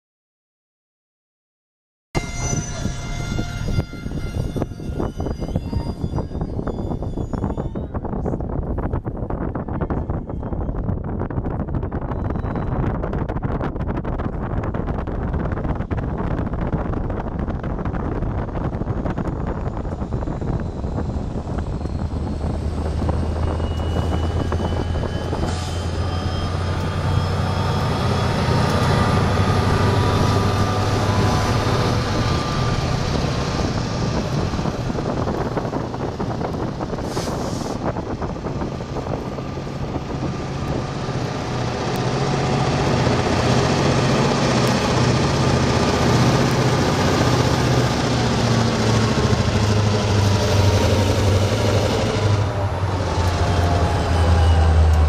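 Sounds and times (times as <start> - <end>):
freight locomotive engine drone: 2.2 - 55.0.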